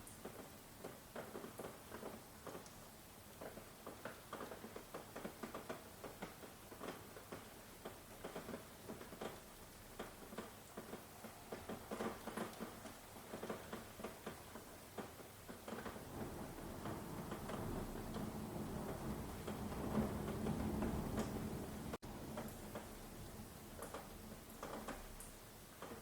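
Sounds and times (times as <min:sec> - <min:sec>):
rain drops tapping: 0:00.0 - 0:26.0.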